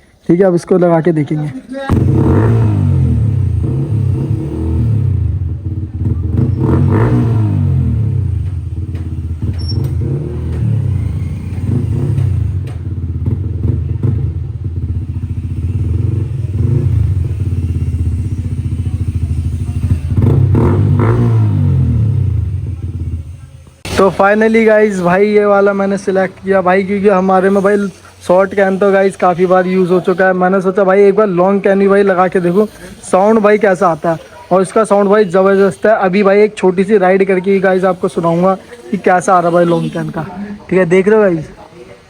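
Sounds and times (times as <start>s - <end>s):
motorcycle engine idling: 1.9s - 40.8s.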